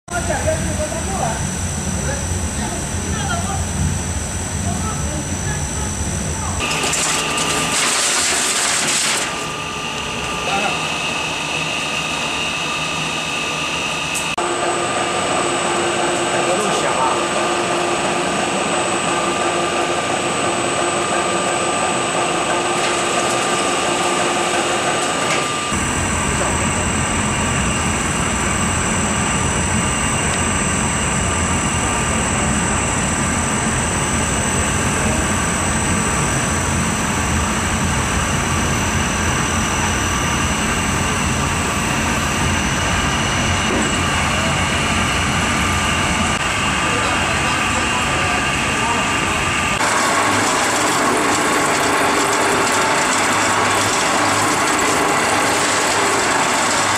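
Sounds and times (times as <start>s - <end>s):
blower fans droning: 0.1s - 56.9s
high mechanical whines: 0.1s - 56.9s.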